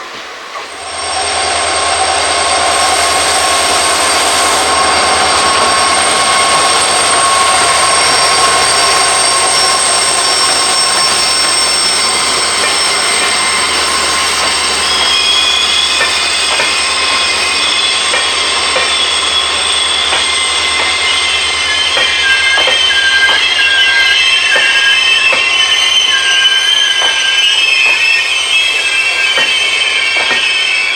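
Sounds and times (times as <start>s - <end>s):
train wheels rumbling and rattling: 0.0s - 30.9s
high thin squealing: 0.7s - 30.9s.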